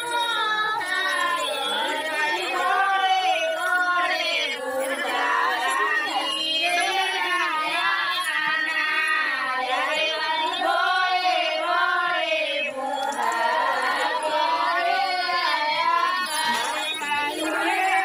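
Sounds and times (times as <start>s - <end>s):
woman's sing-song voice: 0.0s - 18.0s.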